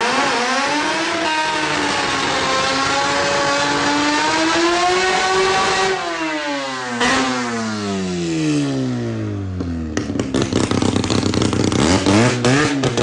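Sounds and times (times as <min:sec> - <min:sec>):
rotary engine at full throttle: 0:00.0 - 0:13.0.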